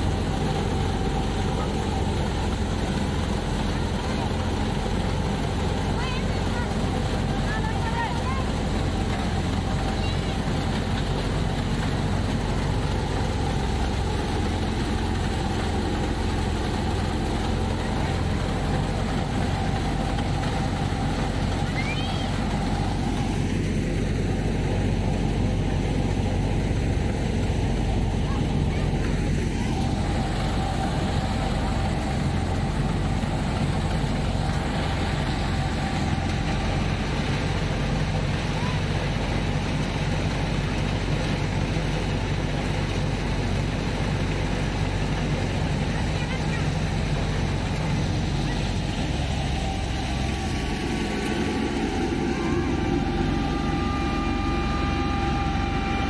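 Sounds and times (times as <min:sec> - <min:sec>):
faint steady whine: 0:00.0 - 0:56.0
thresher machine drone: 0:00.0 - 0:56.0.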